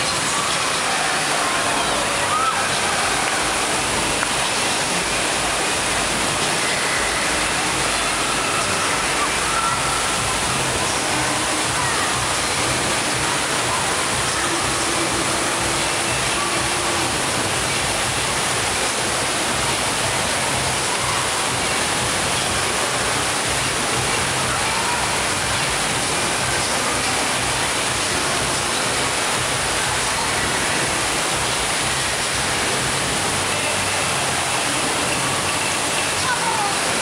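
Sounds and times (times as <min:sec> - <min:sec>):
rushing water roar: 0:00.0 - 0:37.0.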